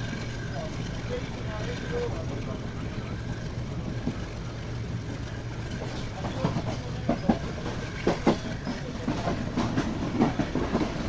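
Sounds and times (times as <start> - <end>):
train rumbling: 0.0 - 11.0
wheels clacking over rail joints: 0.0 - 11.0.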